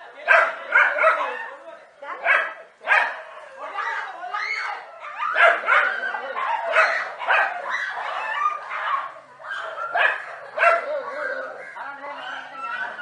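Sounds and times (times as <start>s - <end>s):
dogs barking: 0.2s - 13.0s.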